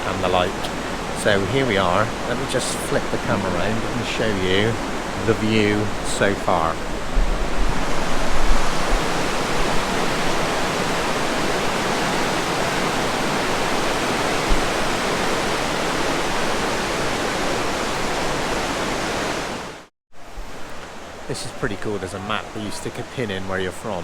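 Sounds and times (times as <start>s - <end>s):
wind rumble on microphone: 0.0s - 19.6s
fast river rushing: 0.0s - 24.0s.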